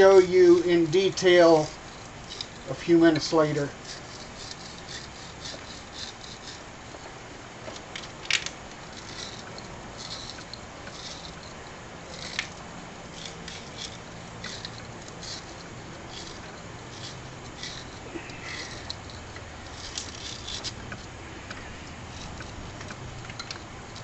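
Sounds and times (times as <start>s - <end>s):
scratching and scraping: 0.0s - 24.0s.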